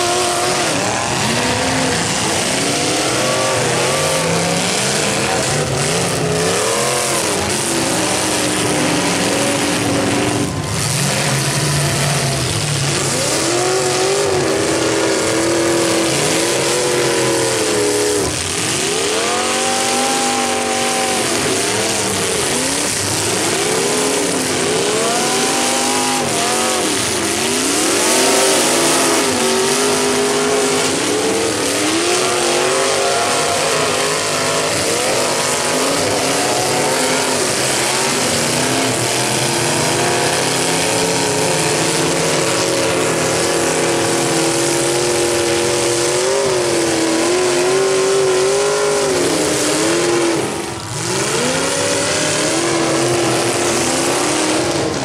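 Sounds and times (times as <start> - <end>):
car engines revving: 0.0 - 55.0
cars crashing: 0.0 - 55.0.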